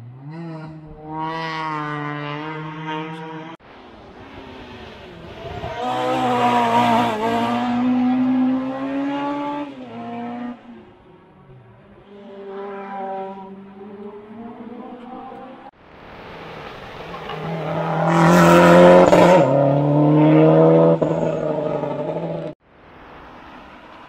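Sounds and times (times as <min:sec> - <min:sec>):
race car engine revving: 0:00.0 - 0:15.7, 0:17.0 - 0:22.6.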